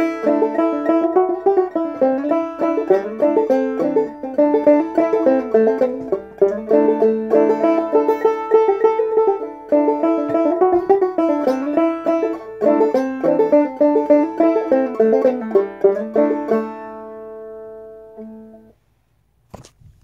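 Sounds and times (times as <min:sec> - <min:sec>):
banjo plucked and brushed: 0:00.0 - 0:18.8.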